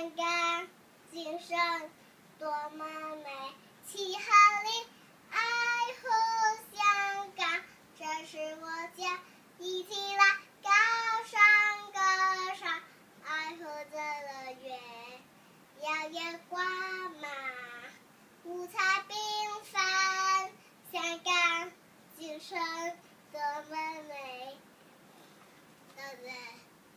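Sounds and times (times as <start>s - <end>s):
girl singing unaccompanied: 0.0s - 24.7s, 25.9s - 26.8s.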